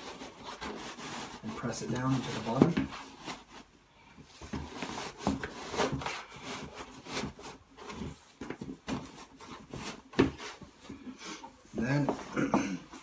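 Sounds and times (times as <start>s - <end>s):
hands rustling and scraping fabric: 0.0s - 13.0s.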